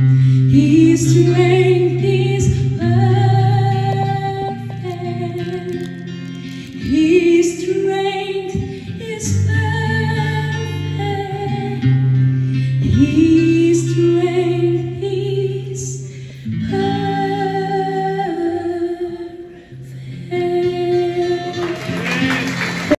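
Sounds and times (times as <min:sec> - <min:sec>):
woman singing into microphone: 0:00.0 - 0:22.0
acoustic guitar: 0:00.0 - 0:23.0.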